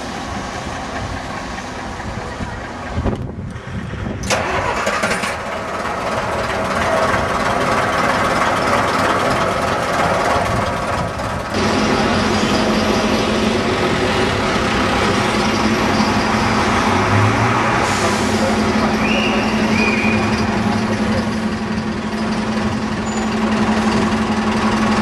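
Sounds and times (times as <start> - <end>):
bus engine hum in traffic: 0.0 - 25.0
bus engine idling: 0.0 - 25.0.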